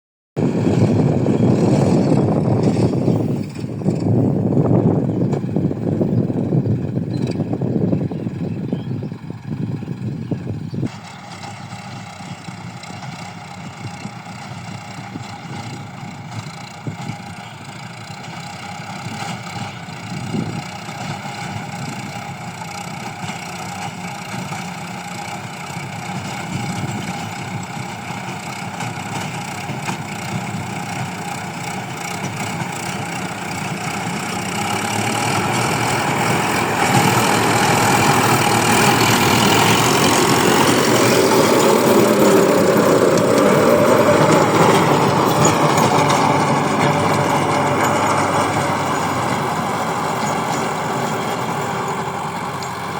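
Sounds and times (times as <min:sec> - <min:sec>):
tractor engine running: 0:00.4 - 0:52.9.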